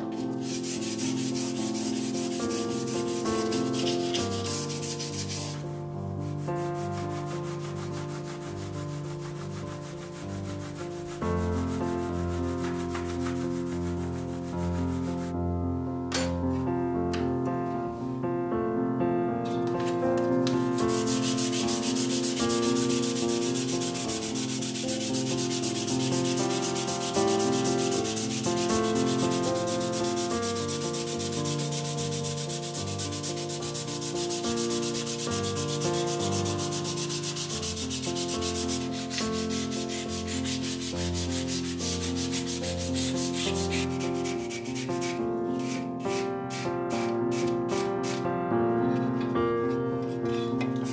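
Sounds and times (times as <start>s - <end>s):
sandpaper rubbing on wood: 0.0s - 5.6s, 6.3s - 15.4s, 20.8s - 48.2s
soft piano music: 0.0s - 50.9s.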